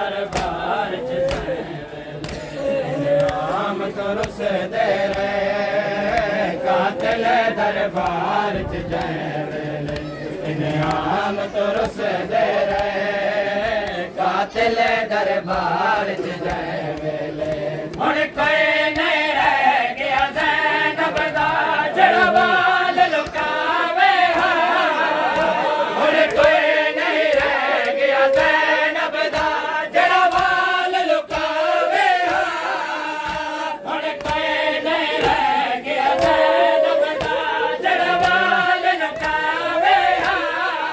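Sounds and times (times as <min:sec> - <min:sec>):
men chanting in unison: 0:00.0 - 0:40.9
rhythmic chest slaps: 0:00.0 - 0:40.9.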